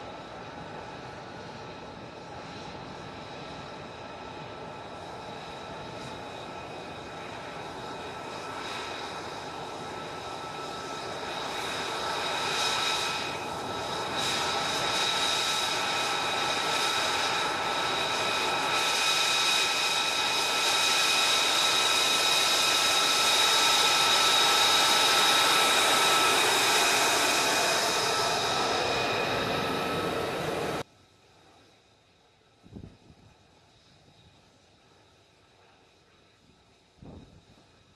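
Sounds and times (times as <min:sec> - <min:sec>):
jet engine whining rush: 0:00.0 - 0:31.8.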